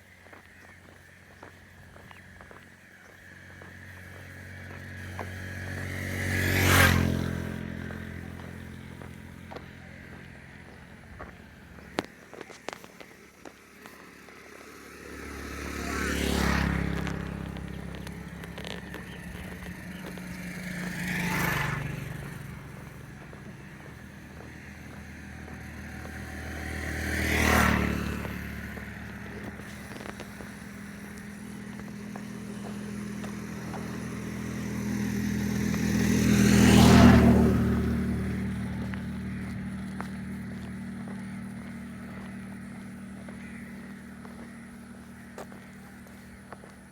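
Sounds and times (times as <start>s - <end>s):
motor vehicles passing by: 0.0s - 46.9s.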